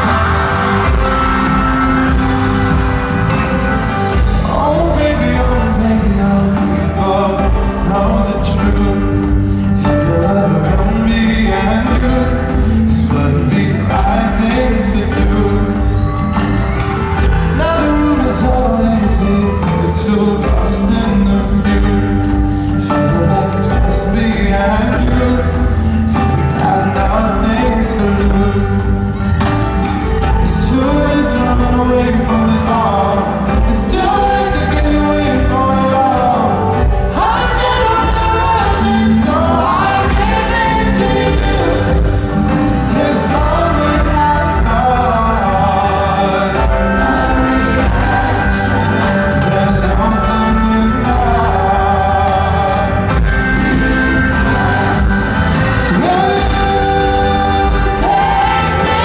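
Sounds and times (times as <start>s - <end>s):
backing vocalists singing: 0.0s - 59.0s
keyboards bass and drums: 0.0s - 59.0s
man singing lead vocals: 0.0s - 59.0s.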